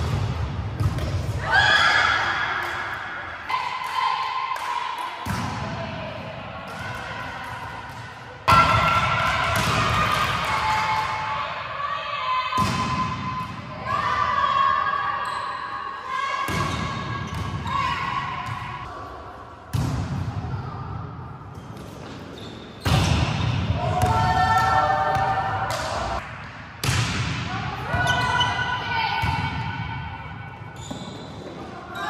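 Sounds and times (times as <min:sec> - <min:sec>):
volleyballs hit and bouncing: 0:00.0 - 0:01.4, 0:02.2 - 0:05.9, 0:06.6 - 0:11.4, 0:12.6 - 0:13.9, 0:16.5 - 0:20.7, 0:21.4 - 0:31.8.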